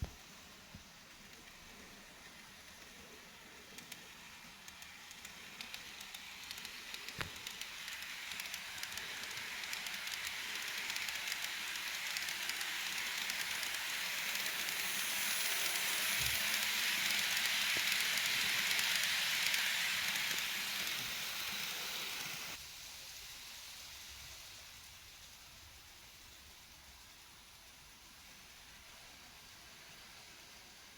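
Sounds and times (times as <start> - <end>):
model train rolling hiss: 0.0 - 30.9.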